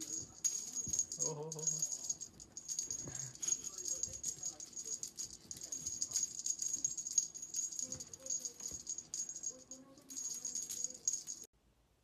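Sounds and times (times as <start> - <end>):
jingling cat toy rattle: 0.0 - 11.5.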